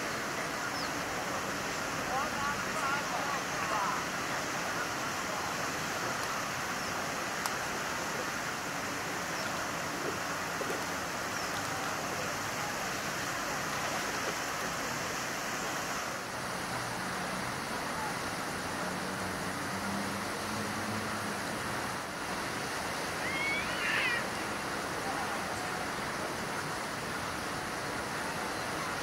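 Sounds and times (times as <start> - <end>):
steady wash of outdoor noise: 0.0 - 29.0.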